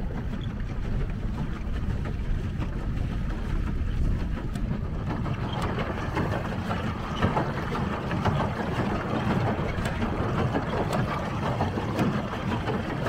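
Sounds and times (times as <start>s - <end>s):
low rumble: 0.0s - 12.6s
water splashing against boat: 0.0s - 13.0s.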